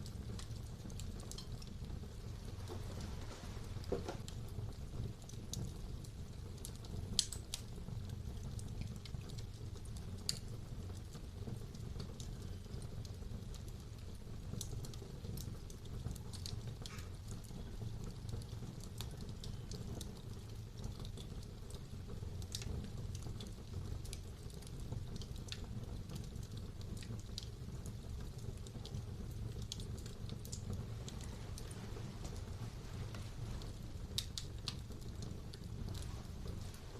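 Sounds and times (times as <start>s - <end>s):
fire flames rumbling: 0.0s - 36.9s
wood crackling and popping: 0.0s - 36.9s.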